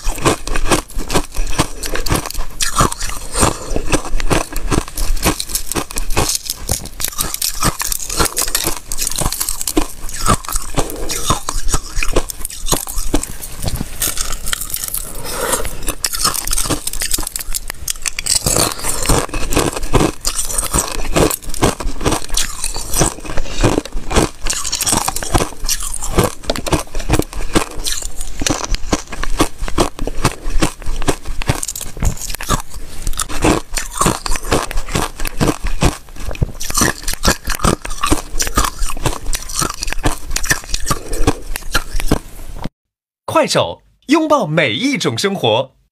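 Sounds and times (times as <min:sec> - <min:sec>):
ice crunching and crackling: 0:00.0 - 0:42.2.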